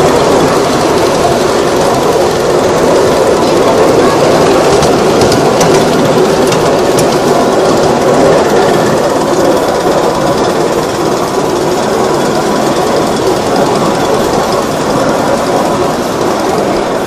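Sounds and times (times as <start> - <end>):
miniature train wheels clattering: 0.0 - 17.0.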